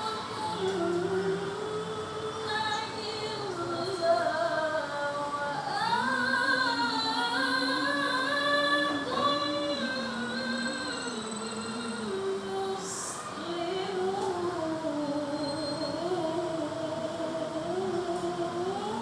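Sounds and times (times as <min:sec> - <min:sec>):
woman reciting melodically: 0:00.0 - 0:19.0.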